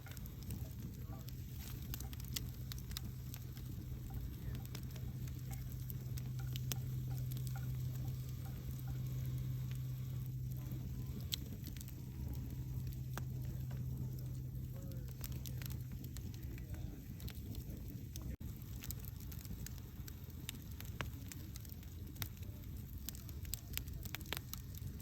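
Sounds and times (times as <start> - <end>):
campfire crackling and popping: 0.0 - 25.0
steady low hum: 0.0 - 25.0.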